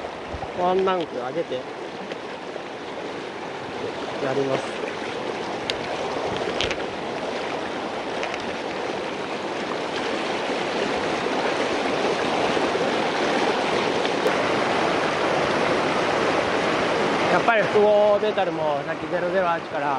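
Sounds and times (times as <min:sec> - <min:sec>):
river rapids rushing over rocks: 0:00.0 - 0:19.9.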